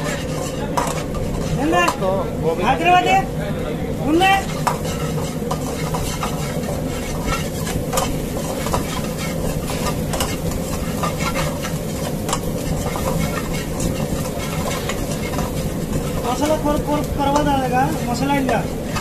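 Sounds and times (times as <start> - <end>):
ladle stirring and scraping: 0.0 - 3.1, 4.1 - 19.0
onions sizzling in hot oil: 0.0 - 19.0.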